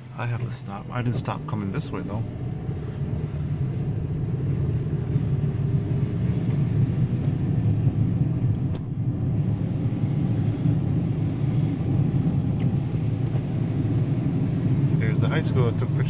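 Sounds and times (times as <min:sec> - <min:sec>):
vehicle engine rumble and road noise: 0:00.0 - 0:16.0.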